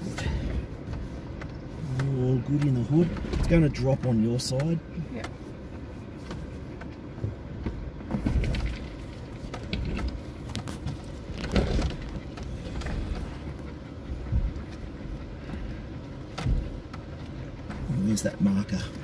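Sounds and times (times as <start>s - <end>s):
vehicle engine low rumble: 0.0s - 19.0s.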